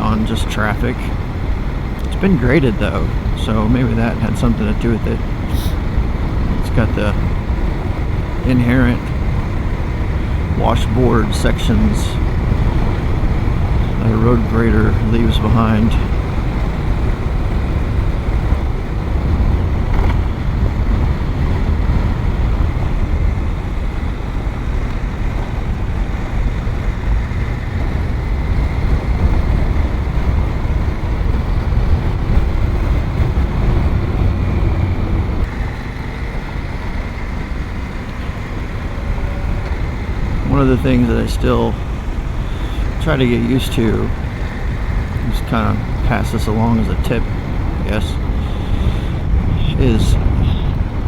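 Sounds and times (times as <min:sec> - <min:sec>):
motorcycle engine: 0:00.0 - 0:51.0
wind rushing over microphone: 0:00.0 - 0:51.0.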